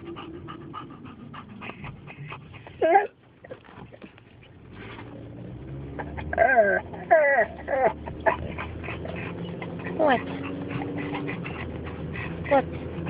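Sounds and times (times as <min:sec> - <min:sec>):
dogs whining: 0:00.0 - 0:04.1, 0:05.9 - 0:13.0
dogs panting: 0:00.0 - 0:04.9, 0:05.8 - 0:13.0.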